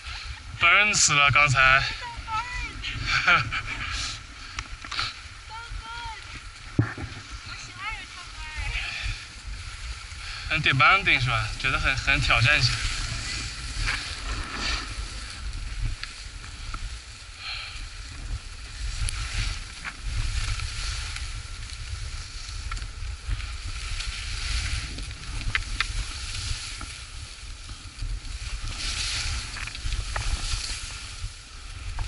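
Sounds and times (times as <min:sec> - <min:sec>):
skis scraping over snow: 0:00.0 - 0:32.0
wind rumble on microphone: 0:00.0 - 0:32.0.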